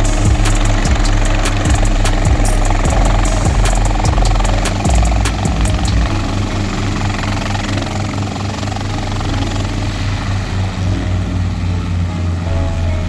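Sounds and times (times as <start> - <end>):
helicopter engine and rotor: 0.0 - 12.4.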